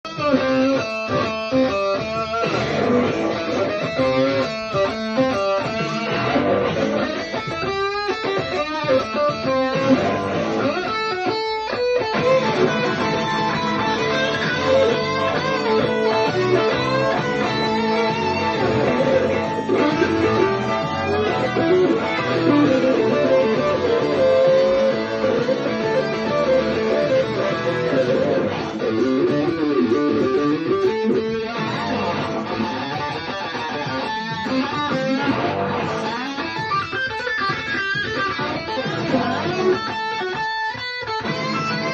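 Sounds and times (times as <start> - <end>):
blues backing track: 0.0 - 41.9
blues guitar improvising: 0.0 - 41.9.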